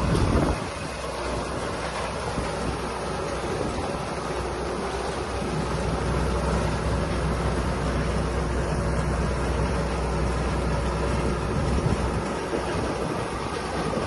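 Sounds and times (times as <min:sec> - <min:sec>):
large engine humming steadily: 0:00.0 - 0:14.0.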